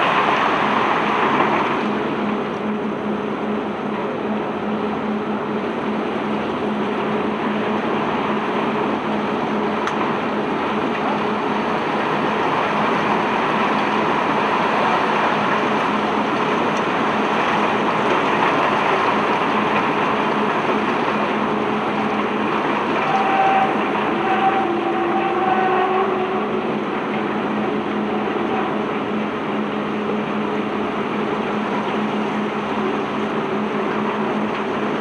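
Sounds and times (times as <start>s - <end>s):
ship unloading machinery hum: 0.0s - 35.0s.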